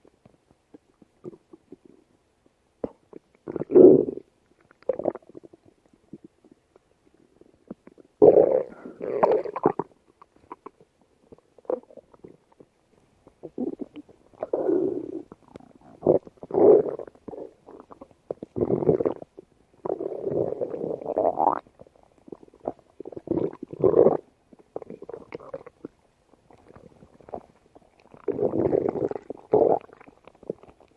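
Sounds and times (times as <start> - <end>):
stomach growling and gurgling: 0.0 - 2.2, 2.8 - 30.9.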